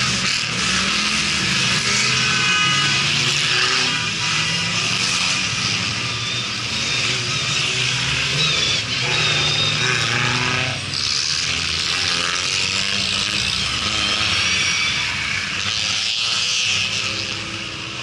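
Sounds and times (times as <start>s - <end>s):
off-road car engines revving: 0.0s - 18.0s.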